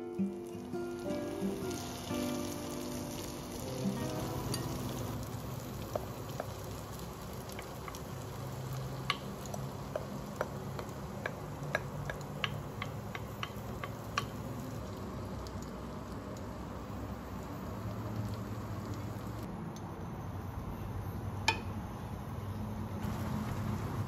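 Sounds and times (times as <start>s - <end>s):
oil popping: 0.0s - 19.5s
pancake sizzling in oil: 0.0s - 19.5s.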